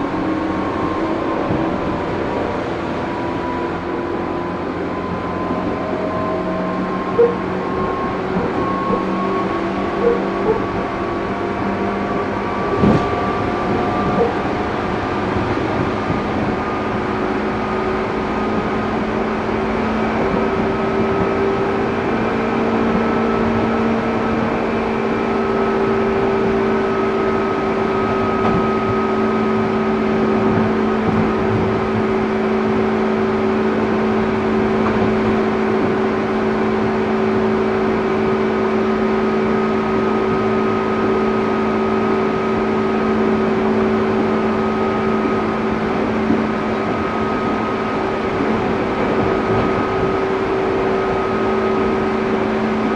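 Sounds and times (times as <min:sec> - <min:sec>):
rolling wheel noise: 0:00.0 - 0:52.9
train motor and gear hum: 0:00.0 - 0:52.9.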